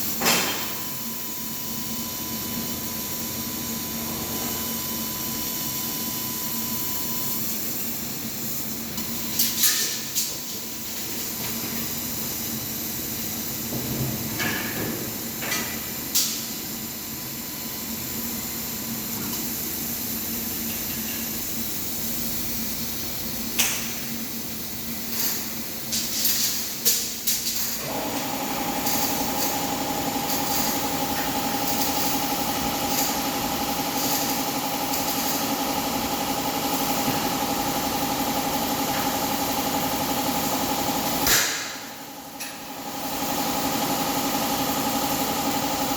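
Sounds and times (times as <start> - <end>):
laser machine hum and hiss: 0.0 - 45.9.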